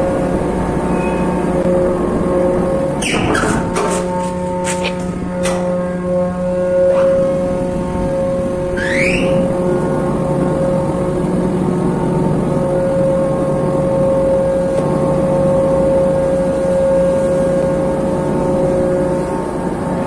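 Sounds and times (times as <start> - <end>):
ship deck machinery droning: 0.0 - 20.0.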